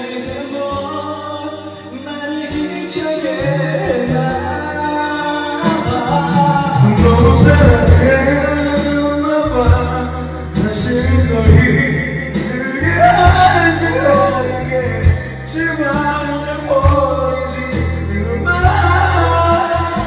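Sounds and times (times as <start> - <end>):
karaoke backing track: 0.0 - 20.0
person singing: 0.0 - 20.0.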